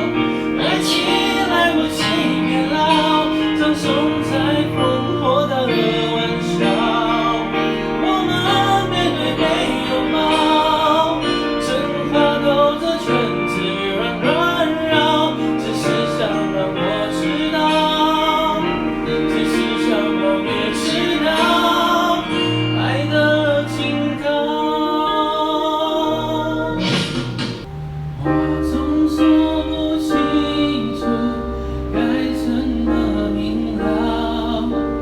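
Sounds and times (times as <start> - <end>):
pop song through small speaker: 0.0 - 35.0.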